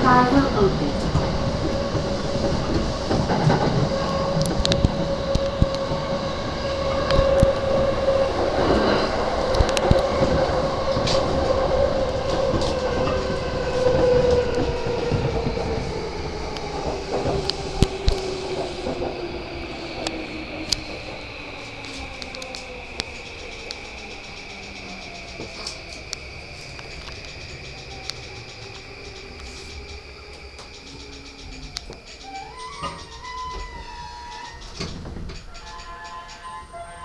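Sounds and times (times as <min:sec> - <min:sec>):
train wheels rumbling on track: 0:00.0 - 0:37.0
wheel clicks over rail joints: 0:00.0 - 0:37.0
whining train motor: 0:00.0 - 0:37.0.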